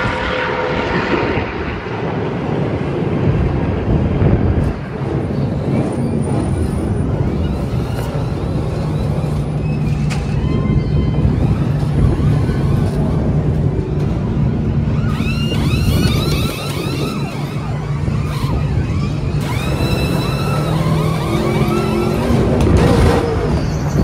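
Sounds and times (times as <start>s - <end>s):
race truck engines running loud: 0.0s - 24.0s
rising engine whines: 0.0s - 24.0s.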